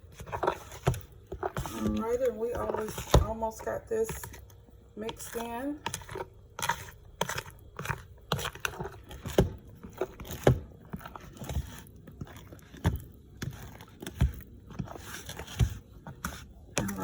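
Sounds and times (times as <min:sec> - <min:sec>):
fork beating batter in bowl: 0:00.0 - 0:17.0.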